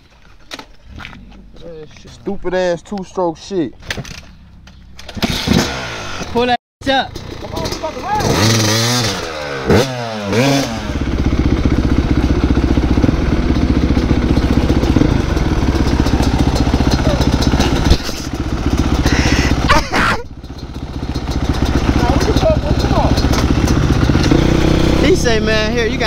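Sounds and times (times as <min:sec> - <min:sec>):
two-stroke dirt bike engines revving: 0:01.0 - 0:26.0.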